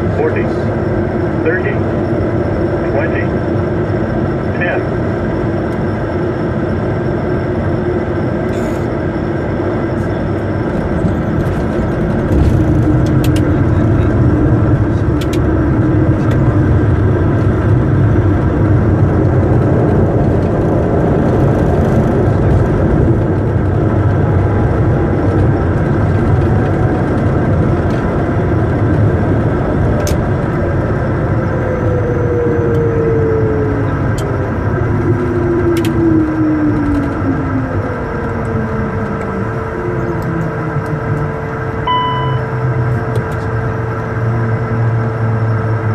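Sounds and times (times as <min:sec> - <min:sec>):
falling engine whine: 0:00.0 - 0:45.9
jet engines and runway rush: 0:00.0 - 0:45.9.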